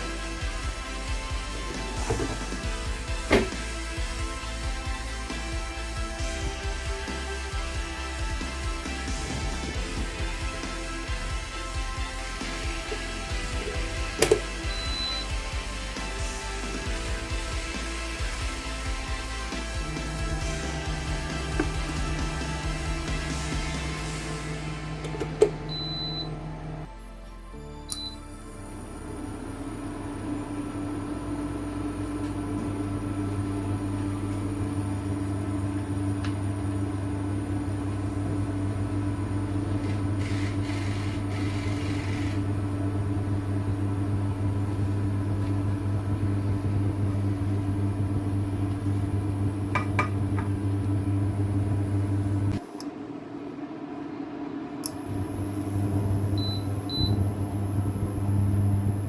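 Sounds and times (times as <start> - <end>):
induction hob humming: 0.0 - 27.0, 27.9 - 59.0.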